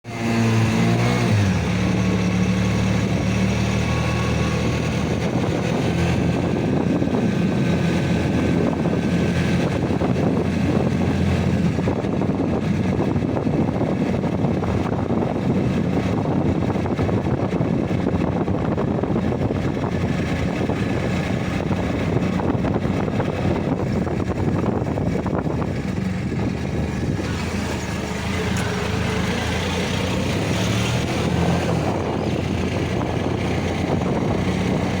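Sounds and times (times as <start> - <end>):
constant rushing noise: 0.0 - 35.0
motor engine running: 0.1 - 35.0.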